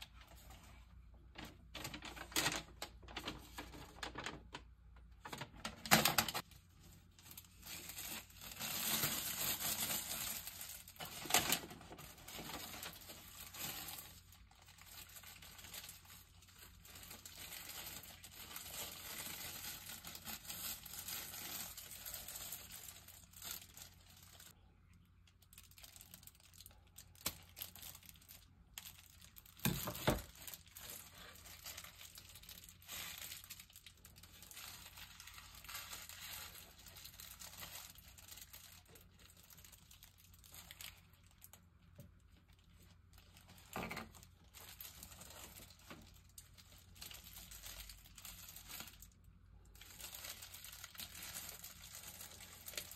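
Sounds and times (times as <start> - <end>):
packaging crinkling and rustling: 0.0 - 52.9.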